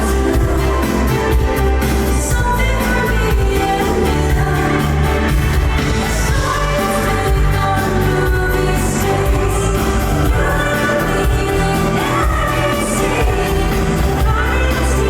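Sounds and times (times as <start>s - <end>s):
pop ballad through sound system: 0.0s - 15.0s
woman singing live: 0.0s - 15.0s.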